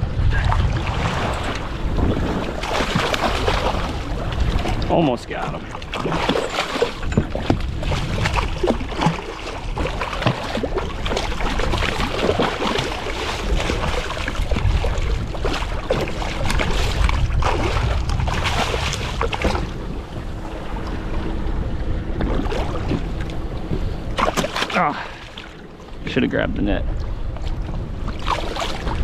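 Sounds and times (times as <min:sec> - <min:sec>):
water splashing and churning: 0:00.0 - 0:29.0
wind rumbling on microphone: 0:00.0 - 0:29.0.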